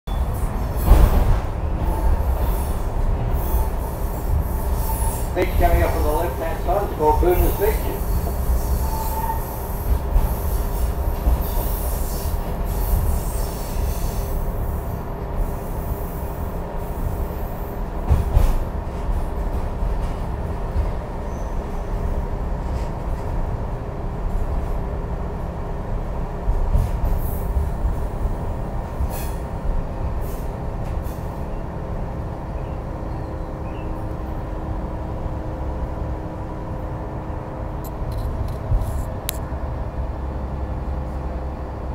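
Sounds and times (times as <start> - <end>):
train wheels rumbling on track: 0.1 - 41.9.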